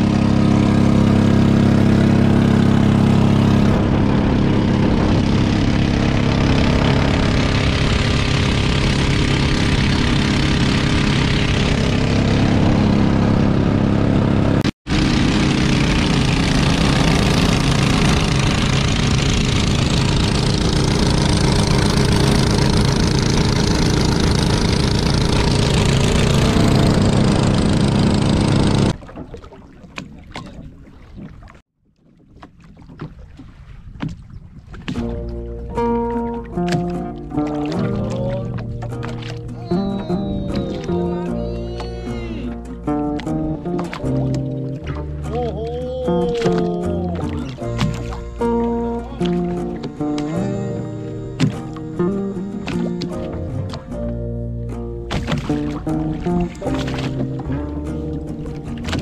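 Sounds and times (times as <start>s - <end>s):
boat motor running: 0.0s - 31.6s, 32.4s - 59.0s.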